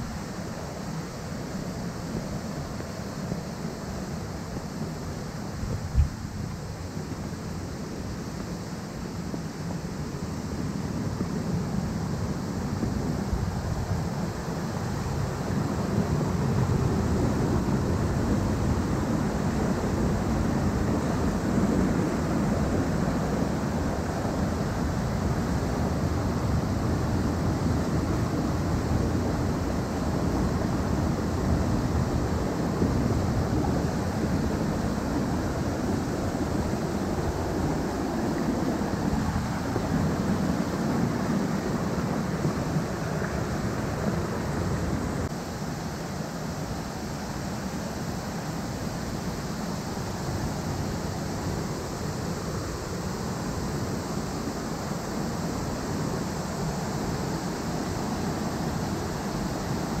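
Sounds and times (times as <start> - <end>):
stream rushing over rocks: 0.0 - 60.0.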